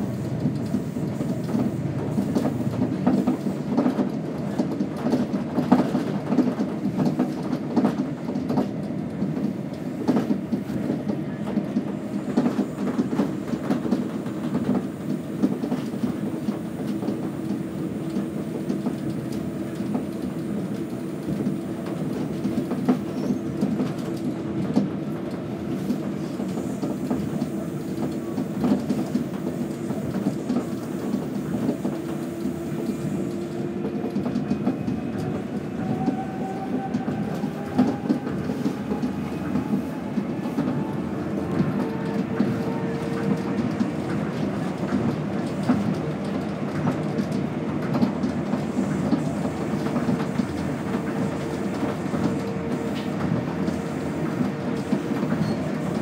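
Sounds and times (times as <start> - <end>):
monorail tyres rumbling: 0.0 - 56.0.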